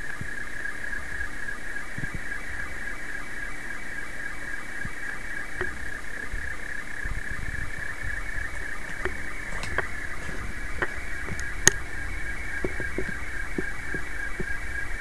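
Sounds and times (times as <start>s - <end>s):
faint regular ticks: 0.0s - 15.0s
fast-shifting high radio tones: 0.0s - 15.0s
radio hiss: 0.0s - 15.0s.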